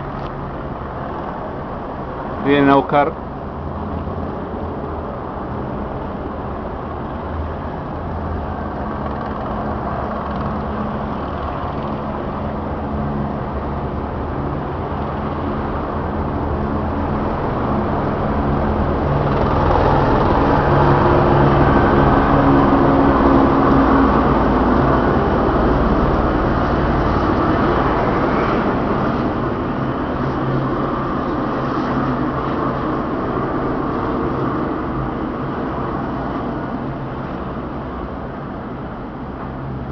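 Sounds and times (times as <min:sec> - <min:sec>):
helicopter engine and rotor: 0:00.0 - 0:39.8.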